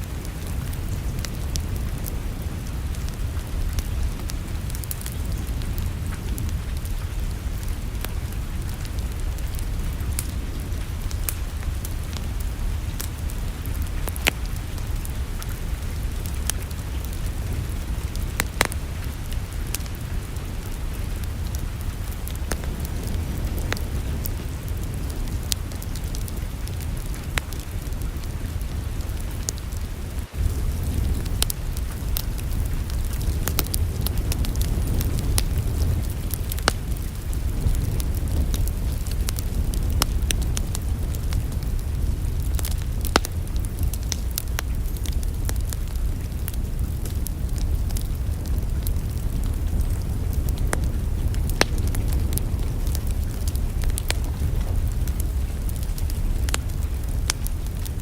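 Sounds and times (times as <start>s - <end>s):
fire pops and snaps: 0.0s - 58.0s
wood fire crackling: 0.0s - 58.0s.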